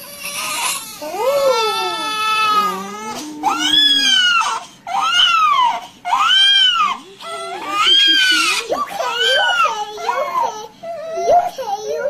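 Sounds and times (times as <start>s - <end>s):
newborn baby crying: 0.0s - 11.7s.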